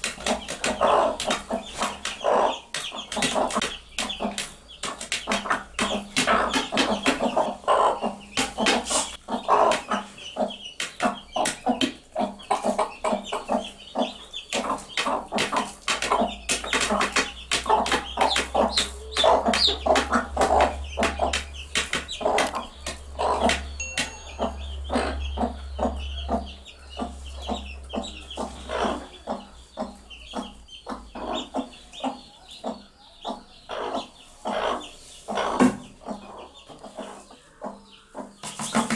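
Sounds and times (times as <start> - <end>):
beaks pecking at a plate: 0.0 - 38.9
hens clucking: 0.0 - 38.9.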